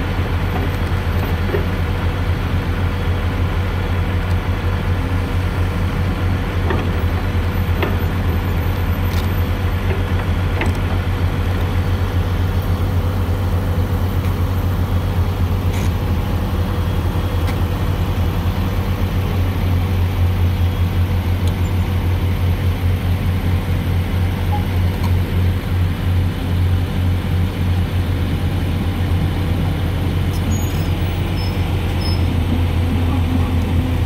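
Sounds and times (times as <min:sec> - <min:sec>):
excavator diesel engine droning: 0:00.0 - 0:34.0.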